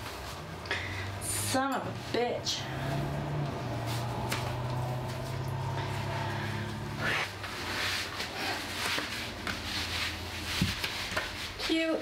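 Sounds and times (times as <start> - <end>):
steady low hum: 0.4 - 11.6
clothing rustling: 1.9 - 12.0.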